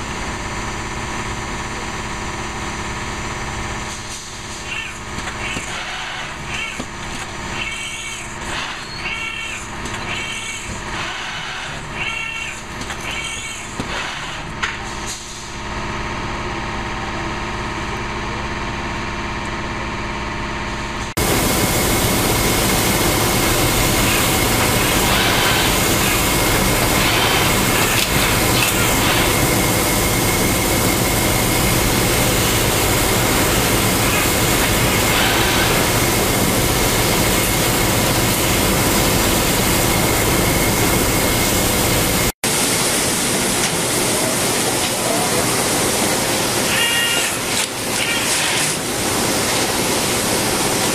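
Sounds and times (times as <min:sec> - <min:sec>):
dense machine noise: 0:00.0 - 0:50.9
machinery humming: 0:00.0 - 0:50.9.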